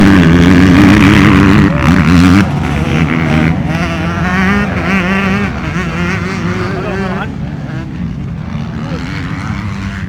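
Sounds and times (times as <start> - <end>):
motocross motorcycle engines revving: 0.0 - 10.0.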